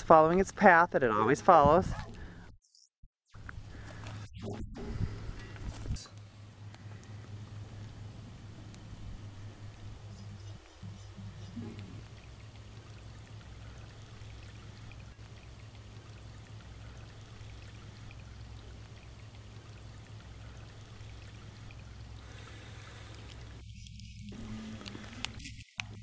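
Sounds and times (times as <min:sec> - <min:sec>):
water trickling over gravel: 0:03.4 - 0:04.3, 0:05.4 - 0:26.0
low steady hum: 0:03.4 - 0:26.0.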